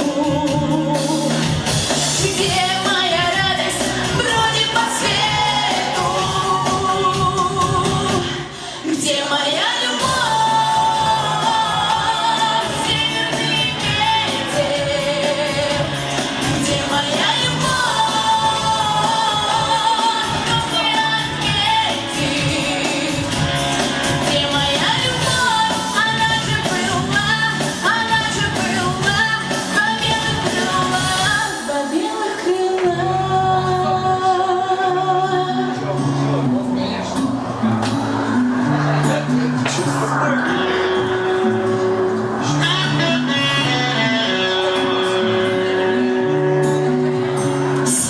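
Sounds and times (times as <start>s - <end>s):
woman singing pop song: 0.0s - 36.2s, 37.1s - 46.6s
musical accompaniment: 0.0s - 48.0s.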